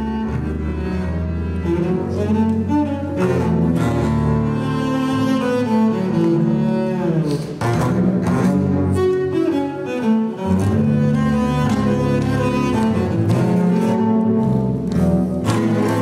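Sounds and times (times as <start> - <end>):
bowed double basses: 0.0 - 16.0.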